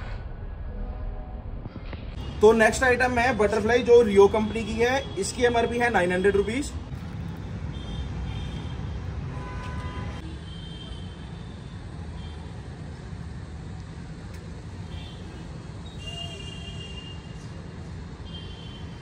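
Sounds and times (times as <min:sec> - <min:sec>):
distant city traffic rumble: 0:00.0 - 0:19.0.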